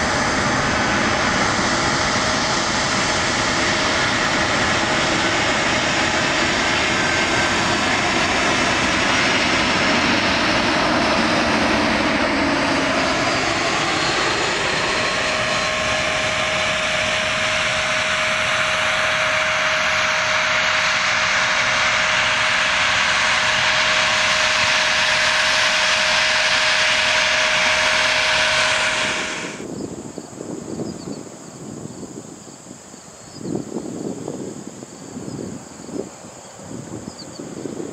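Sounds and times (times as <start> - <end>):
jet engines roaring: 0.0 - 30.6
jet engine whine: 0.0 - 37.9.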